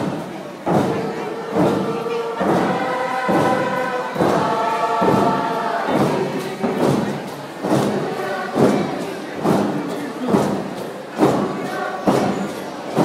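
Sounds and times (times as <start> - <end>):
group of voices singing: 0.0 - 13.0
steady drum beat: 0.0 - 13.0.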